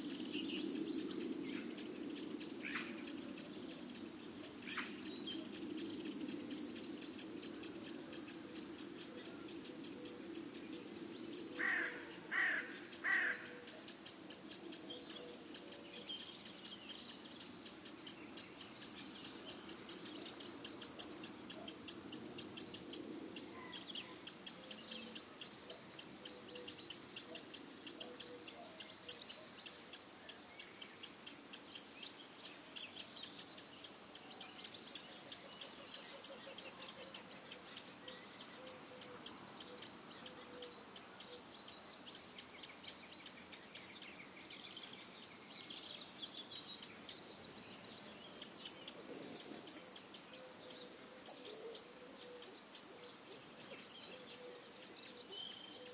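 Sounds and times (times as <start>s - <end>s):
faint bird calls: 0.0s - 31.9s, 32.8s - 55.9s
small bird chirping: 0.1s - 55.9s.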